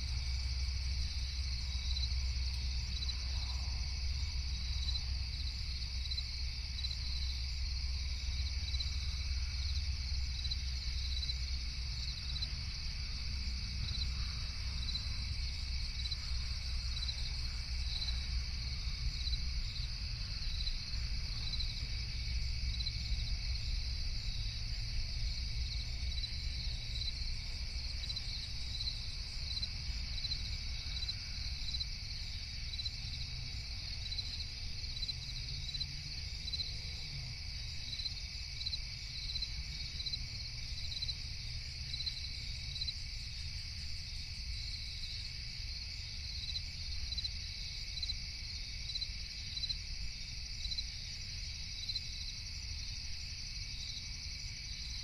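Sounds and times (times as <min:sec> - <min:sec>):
continuous low rumble: 0:00.0 - 0:55.0
crickets chirping: 0:00.0 - 0:55.0.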